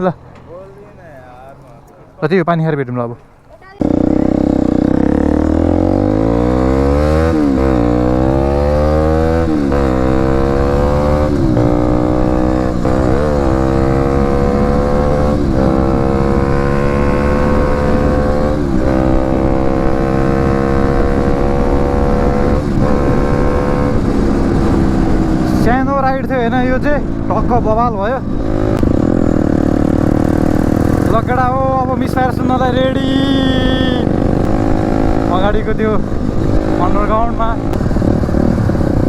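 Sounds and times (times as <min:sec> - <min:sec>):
motorcycle engine accelerating: 0:03.7 - 0:39.0.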